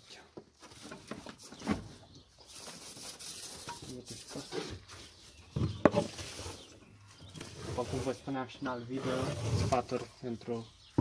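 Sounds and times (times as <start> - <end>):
straw rustling on wooden floor: 0.6 - 10.2.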